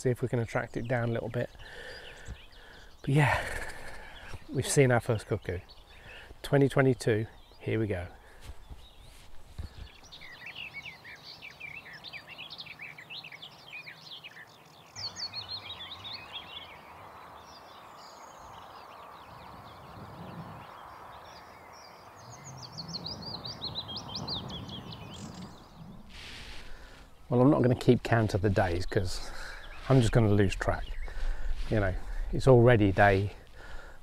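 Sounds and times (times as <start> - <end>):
outdoor background noise: 0.0 - 34.0
songbird twittering: 0.1 - 34.0.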